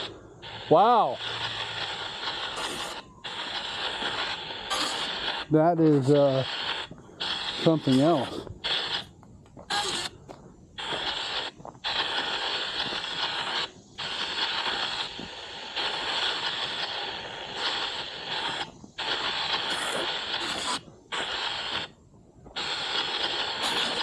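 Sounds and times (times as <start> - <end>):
bursts of radio static: 0.0 - 10.2, 10.8 - 24.0.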